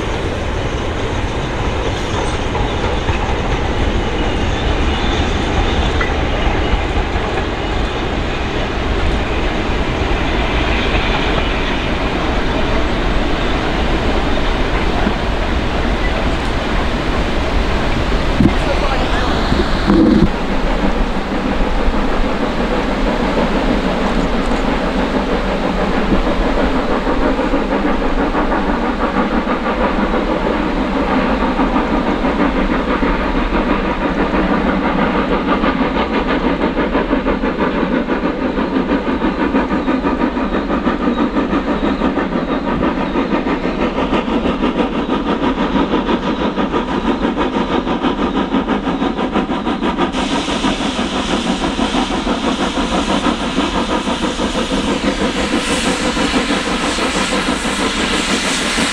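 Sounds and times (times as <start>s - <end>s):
steam hissing: 0.0s - 58.9s
steam locomotive chuffing: 0.0s - 58.9s.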